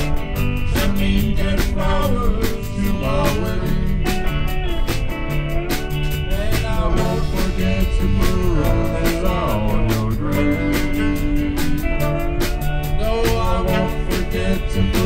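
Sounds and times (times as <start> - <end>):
bass guitar: 0.0 - 15.0
drum kit beat: 0.0 - 15.0
electric guitars: 0.0 - 15.0
sliding lead guitar line: 0.0 - 15.0.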